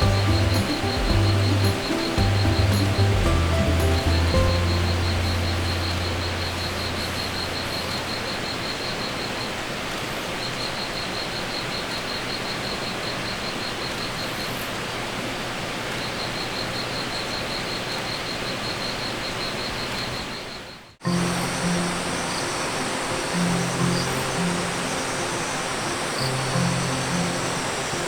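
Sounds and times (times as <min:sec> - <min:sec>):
insect chirping in quick pulses: 0:00.0 - 0:14.9, 0:16.0 - 0:28.0
steady rushing outdoor noise: 0:00.0 - 0:20.4, 0:21.0 - 0:28.0.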